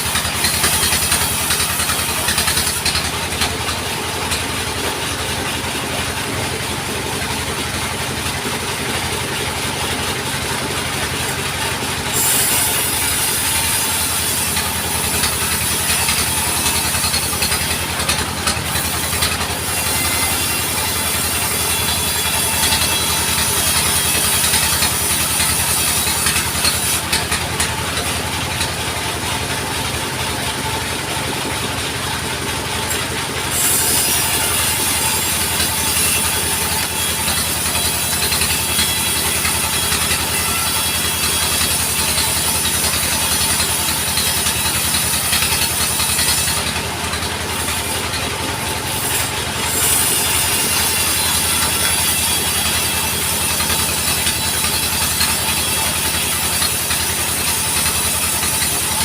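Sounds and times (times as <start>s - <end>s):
band saw running with low hum: 0.0s - 59.0s.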